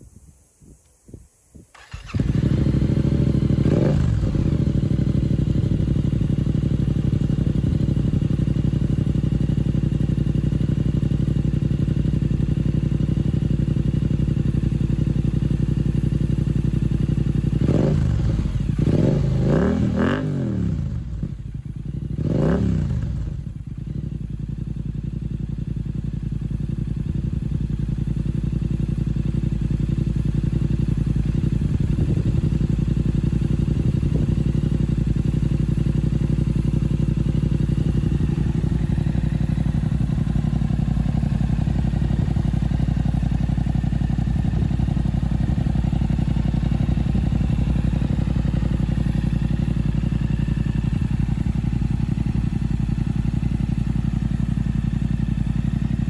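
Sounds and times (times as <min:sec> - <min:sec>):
motorcycle engine idling and revving: 0:01.7 - 0:56.0.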